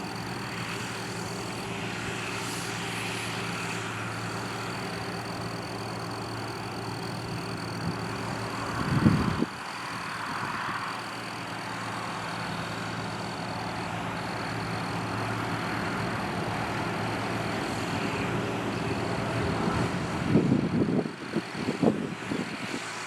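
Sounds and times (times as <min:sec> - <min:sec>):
diesel tractor engine running: 0:00.0 - 0:22.7.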